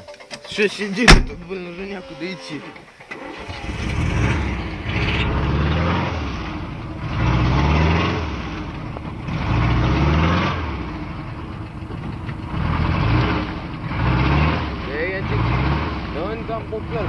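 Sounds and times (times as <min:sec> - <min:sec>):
car engine revving: 0:03.1 - 0:17.0.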